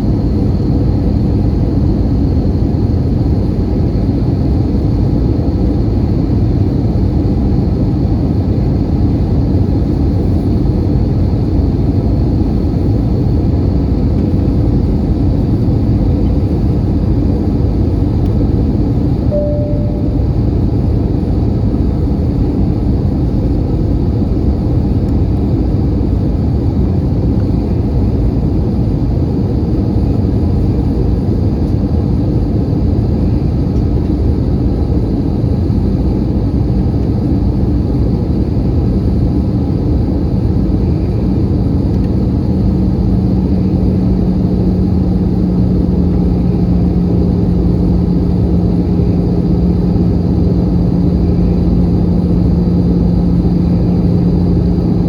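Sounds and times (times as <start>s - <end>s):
airliner cabin roar: 0.0s - 55.0s
steady low hum: 0.0s - 55.0s.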